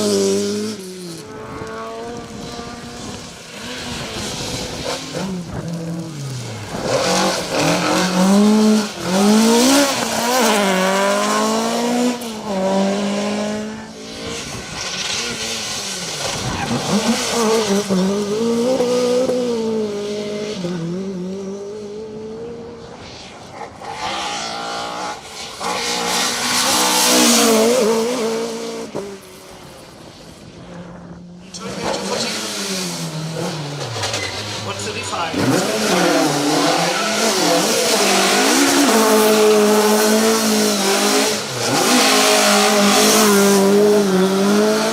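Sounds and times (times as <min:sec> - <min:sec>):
rally car engine revving: 0:00.0 - 0:29.6, 0:30.8 - 0:44.9.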